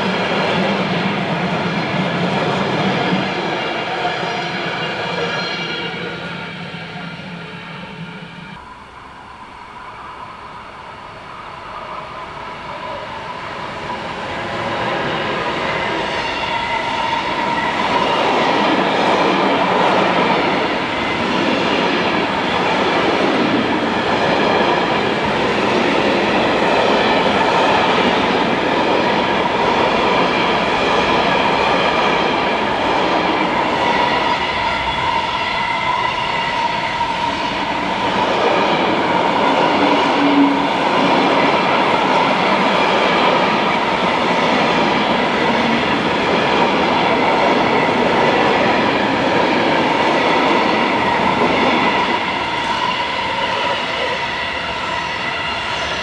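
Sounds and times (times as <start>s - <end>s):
freight train rolling past: 0.0s - 56.0s
high whine of train: 0.0s - 56.0s.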